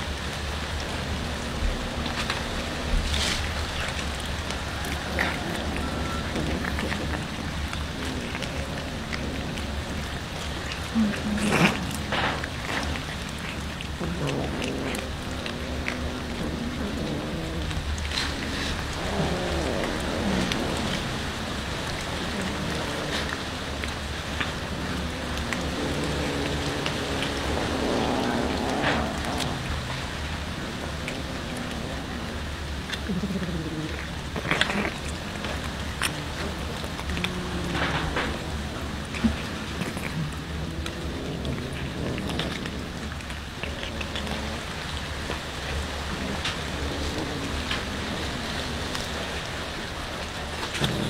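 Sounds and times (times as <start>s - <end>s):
cats chewing fish: 0.0s - 51.0s
low steady hum: 0.0s - 51.0s.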